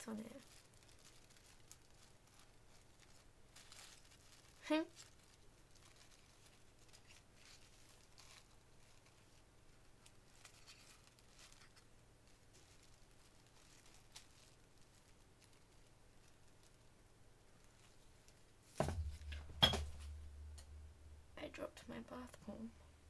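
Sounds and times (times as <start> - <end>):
crinkly plastic wrapping rustling: 0.0 - 20.2.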